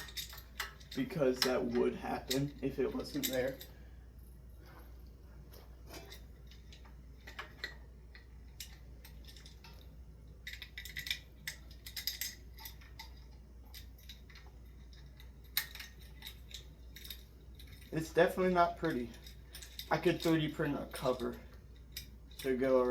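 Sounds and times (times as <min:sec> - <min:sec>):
faint low hum: 0:00.0 - 0:22.9
metal parts clicking and clinking: 0:00.0 - 0:22.9.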